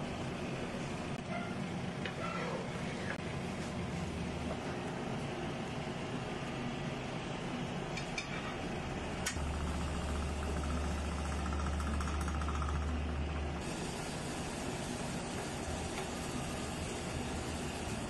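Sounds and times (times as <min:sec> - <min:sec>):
kitchen hiss and hum: 0:00.0 - 0:18.0.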